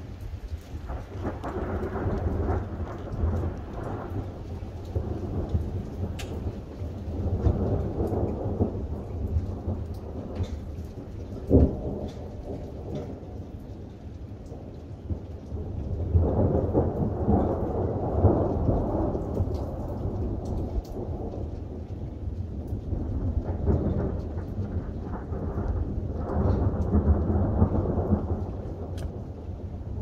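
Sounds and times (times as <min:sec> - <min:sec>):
rolling thunder: 0:00.0 - 0:30.0
steady rain: 0:00.0 - 0:30.0.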